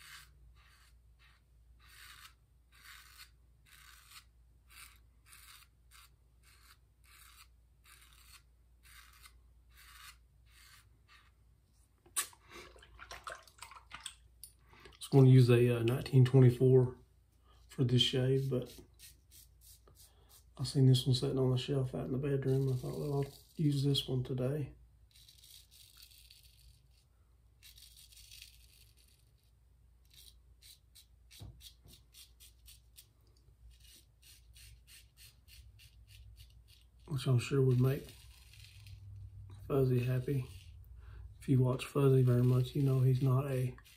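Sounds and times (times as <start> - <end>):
razor scraping stubble: 0.0 - 11.4, 17.6 - 24.5, 25.1 - 43.9.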